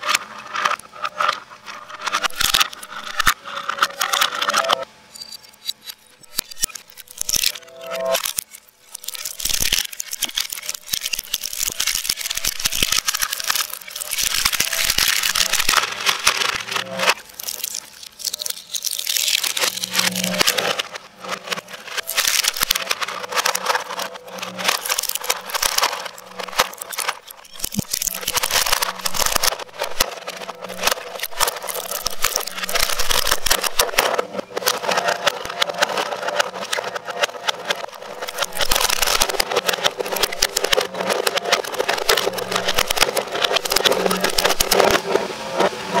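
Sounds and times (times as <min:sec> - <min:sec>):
shredder crunching hard plastic: 0:00.0 - 0:04.6, 0:05.7 - 0:46.0.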